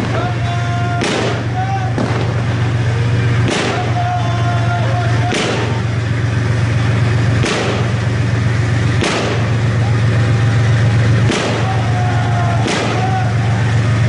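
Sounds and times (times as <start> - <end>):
diesel engine idling: 0.0 - 14.0
sharp bangs: 0.0 - 14.0.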